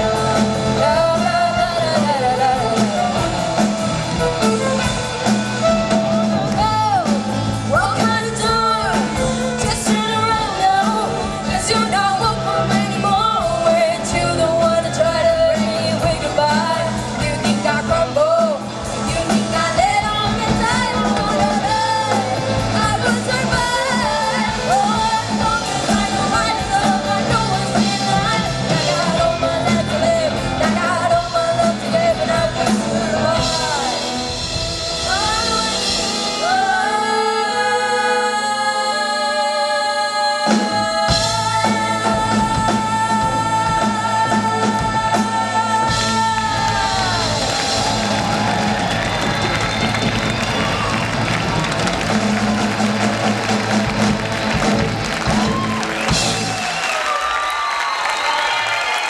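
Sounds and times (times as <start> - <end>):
lead vocals singing: 0.0 - 51.2
live rock band playing: 0.0 - 59.0.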